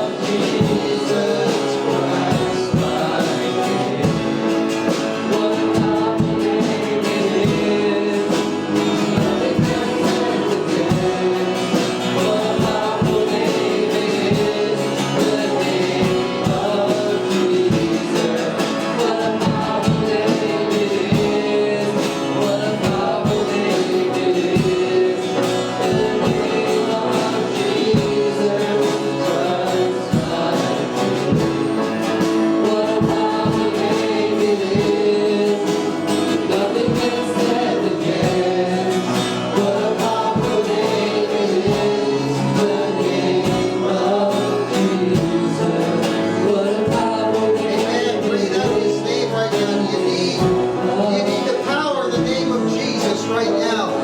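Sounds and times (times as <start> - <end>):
guitar: 0.0 - 54.0
voices singing: 0.0 - 54.0.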